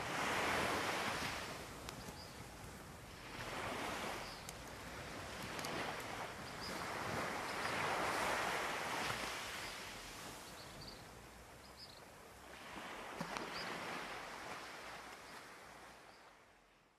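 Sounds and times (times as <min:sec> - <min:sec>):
ocean waves washing onto shore: 0:00.0 - 0:16.9.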